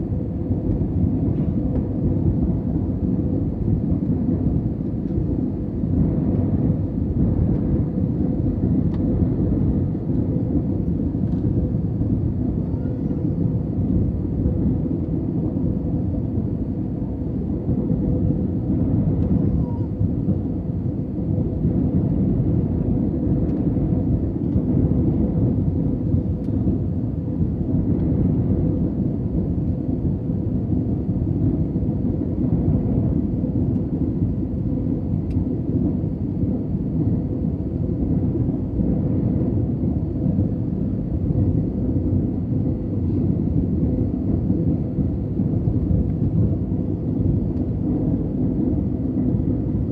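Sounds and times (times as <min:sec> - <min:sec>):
airliner cabin engine roar: 0:00.0 - 0:49.9.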